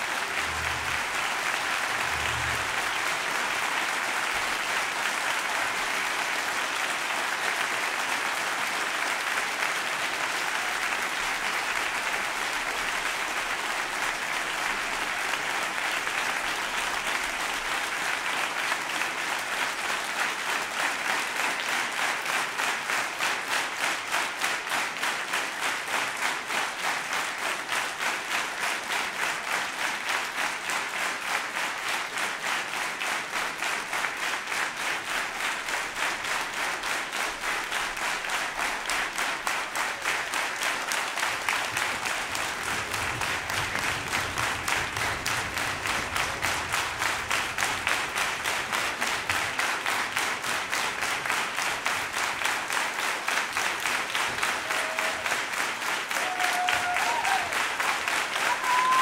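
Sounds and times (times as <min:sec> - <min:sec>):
audience applauding: 0:00.0 - 0:59.0
rhythmic clapping in unison: 0:00.0 - 0:59.0.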